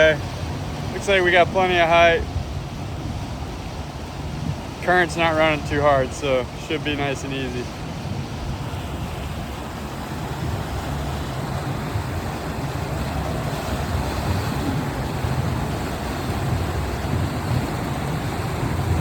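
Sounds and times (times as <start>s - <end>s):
boat motor rumble: 0.0s - 19.0s
water noise: 0.0s - 19.0s
wind: 0.0s - 19.0s.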